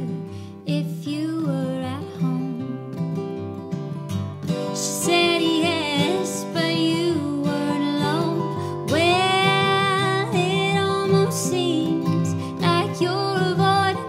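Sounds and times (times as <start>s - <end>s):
woman singing: 0.0s - 3.1s, 4.6s - 14.0s
acoustic guitars: 0.0s - 14.0s.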